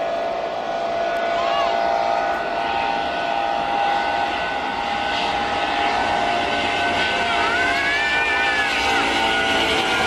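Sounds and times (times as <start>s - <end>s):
jet engine whine: 0.0s - 10.0s
jet engines roaring: 0.0s - 10.0s.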